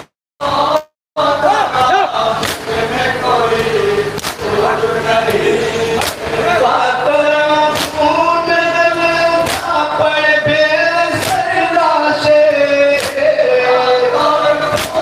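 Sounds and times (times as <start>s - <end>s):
men chanting a lament: 0.4s - 15.0s.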